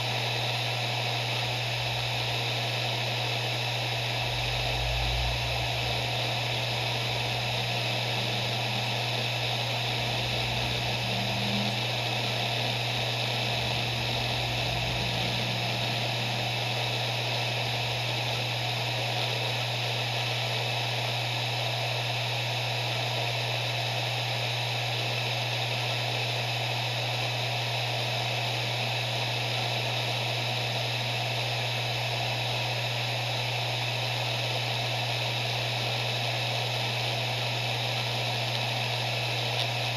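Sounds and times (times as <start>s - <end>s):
hard drive spinning: 0.0s - 39.9s.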